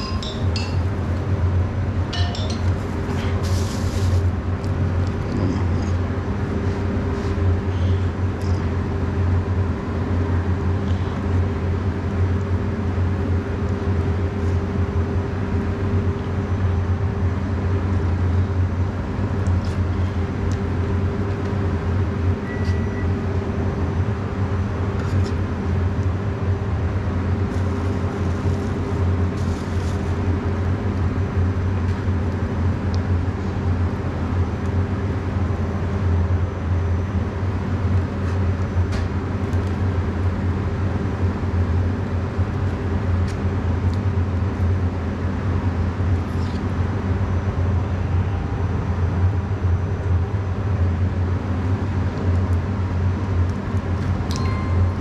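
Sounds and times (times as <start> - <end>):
constant hum tone: 0.0 - 55.0
kitchen machinery drone: 0.0 - 55.0.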